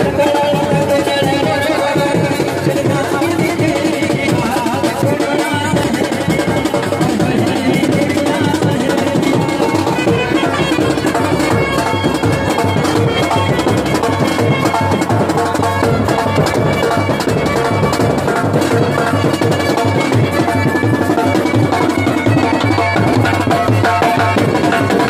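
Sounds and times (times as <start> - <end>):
driving drum beats: 0.0 - 25.0.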